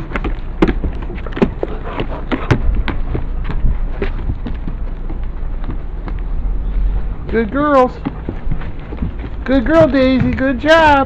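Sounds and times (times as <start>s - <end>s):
footsteps on wooden boards: 0.0s - 11.0s
low microphone rumble: 0.0s - 11.0s.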